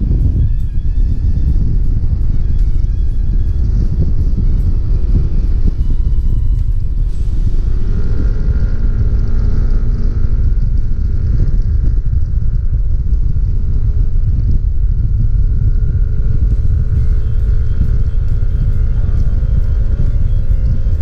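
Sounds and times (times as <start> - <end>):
scooter engine running: 0.0 - 21.0
wind buffeting microphone: 0.0 - 21.0.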